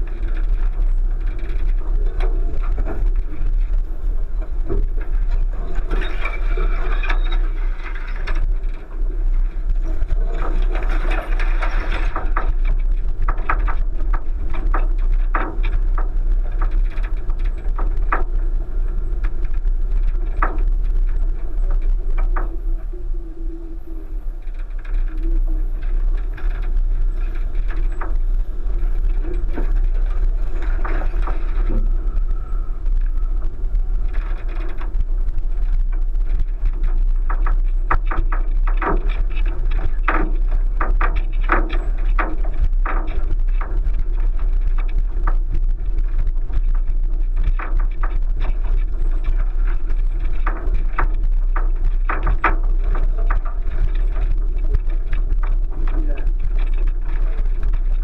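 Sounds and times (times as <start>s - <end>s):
car driving low rumble: 0.0s - 58.0s.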